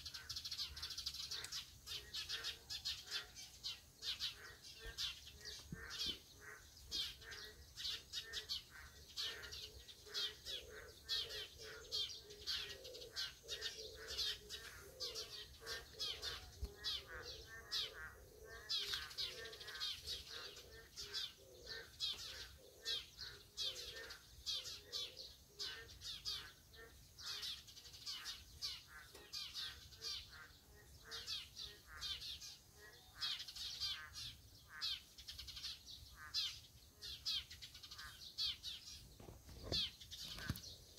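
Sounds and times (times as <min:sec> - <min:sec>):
frogs chirping: 0:00.0 - 0:38.6.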